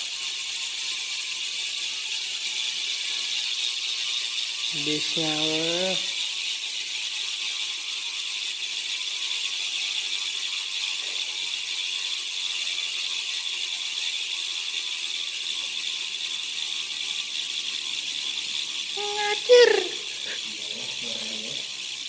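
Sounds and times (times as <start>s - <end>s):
bicycle freehub buzzing: 0.1s - 19.0s, 20.1s - 22.0s.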